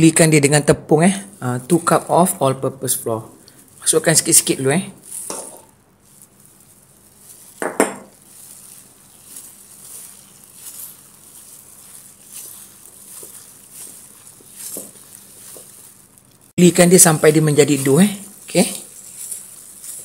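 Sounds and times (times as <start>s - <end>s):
gloved hand mixing dough in a pot: 0.9s - 20.0s.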